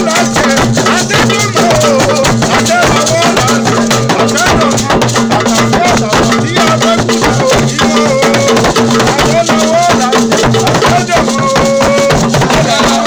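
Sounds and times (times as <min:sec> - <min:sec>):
drums beating fast rhythm: 0:00.0 - 0:13.0
shaken rattles: 0:00.0 - 0:13.0
voices singing: 0:00.0 - 0:13.0.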